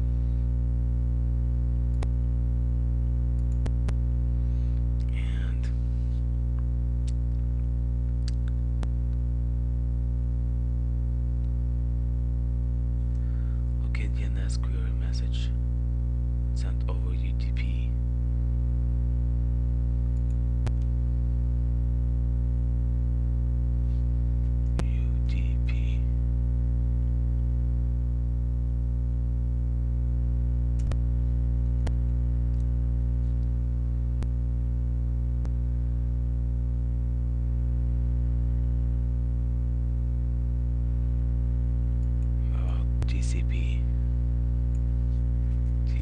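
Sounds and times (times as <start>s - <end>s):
steady electrical hum: 0.0s - 46.0s.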